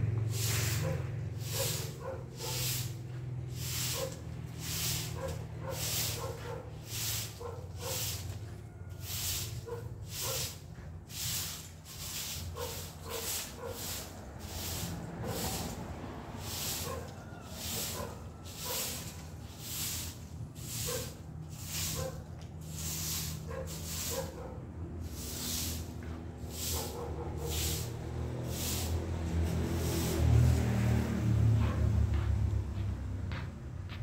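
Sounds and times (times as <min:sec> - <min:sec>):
broom sweeping leaves on tiles: 0:00.0 - 0:32.6.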